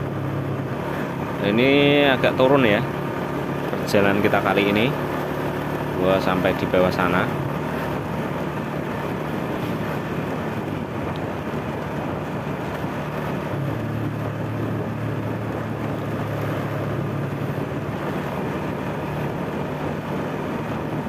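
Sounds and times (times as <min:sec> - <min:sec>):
vehicle engine running: 0:00.0 - 0:21.0
wind and road noise: 0:00.0 - 0:21.0.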